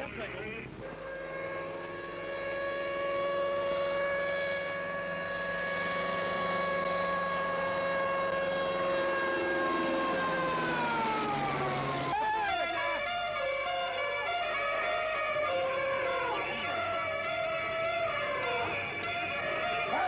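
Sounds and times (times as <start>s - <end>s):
light aircraft flying overhead: 0.0s - 20.0s.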